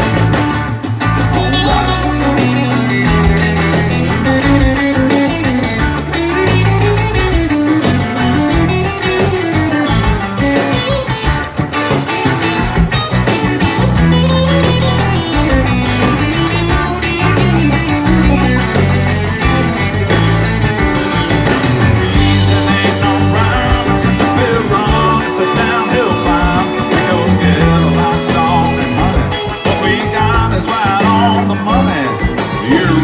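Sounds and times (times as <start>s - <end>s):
electric guitar lead line: 0.0s - 33.0s
live rock band playing: 0.0s - 33.0s.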